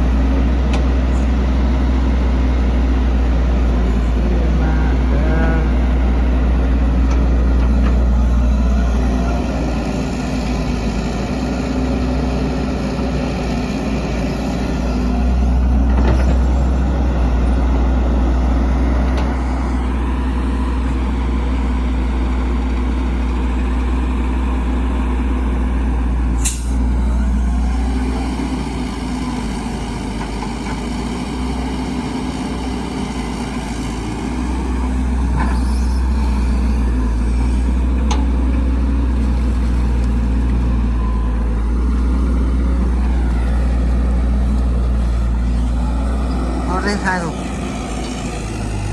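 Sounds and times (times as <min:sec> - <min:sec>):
heavy diesel engines rumbling: 0:00.0 - 0:48.9.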